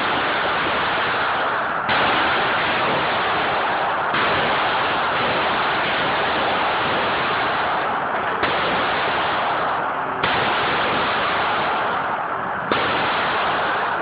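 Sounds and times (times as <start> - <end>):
loud steady noise: 0.0 - 14.0
handgun shots: 1.9 - 14.0.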